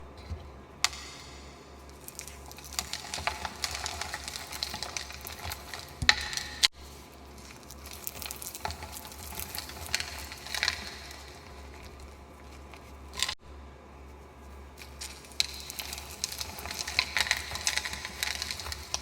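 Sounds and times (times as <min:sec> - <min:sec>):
chalk crunching and crackling: 0:00.0 - 0:19.0.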